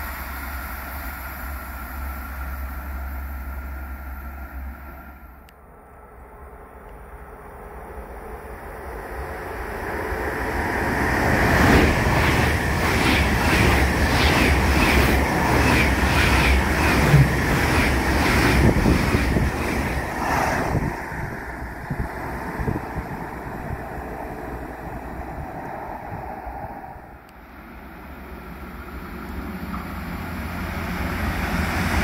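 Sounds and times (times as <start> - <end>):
train passing close by: 0.0 - 32.0.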